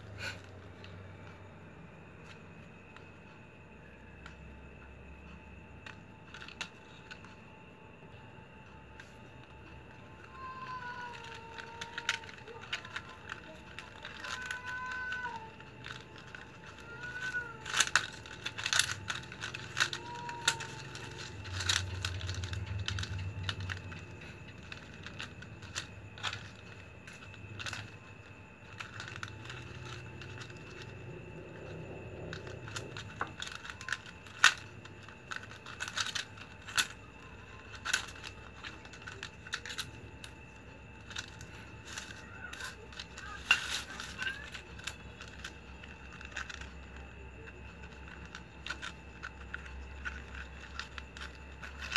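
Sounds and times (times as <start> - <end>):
plastic strips crackling and clicking: 4.2 - 51.9.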